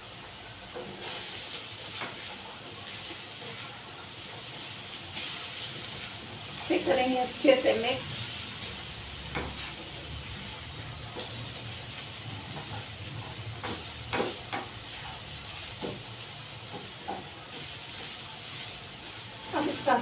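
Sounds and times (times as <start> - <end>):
food frying with steady hiss: 0.0 - 20.0.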